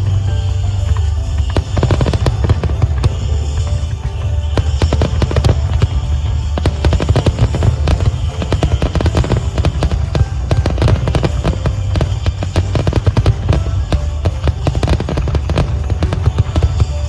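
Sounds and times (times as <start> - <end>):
fireworks cracks and bangs: 0.0 - 17.0
low rumble: 0.0 - 17.0.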